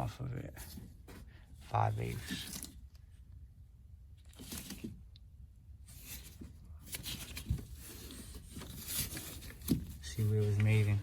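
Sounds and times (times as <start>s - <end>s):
parts scraping and rustling: 0.0s - 3.0s, 4.2s - 5.1s, 5.8s - 11.0s.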